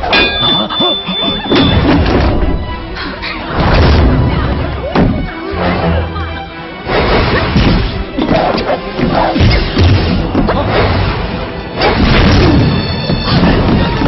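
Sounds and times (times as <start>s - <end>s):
dramatic film score: 0.0s - 14.0s.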